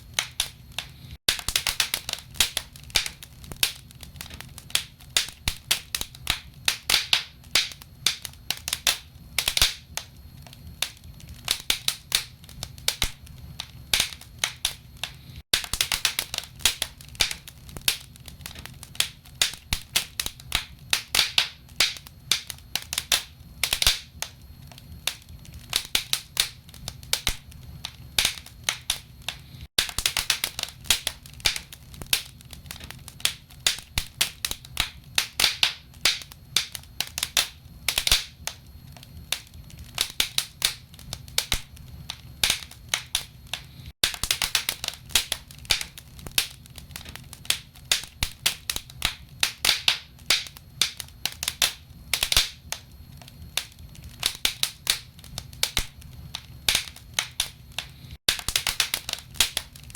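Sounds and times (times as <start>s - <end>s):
low rumble of flames: 0.0s - 59.9s
logs crackling and popping: 0.1s - 59.9s.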